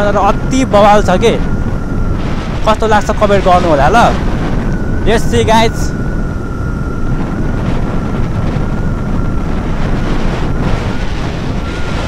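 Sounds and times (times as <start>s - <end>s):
thin steady whine: 0.0s - 12.0s
wind buffeting microphone: 0.0s - 12.0s.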